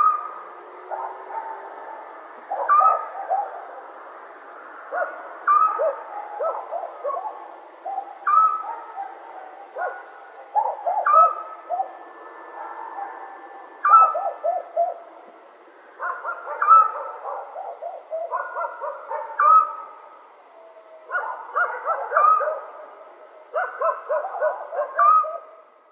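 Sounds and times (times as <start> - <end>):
night-time animal calls: 0.0 - 25.8.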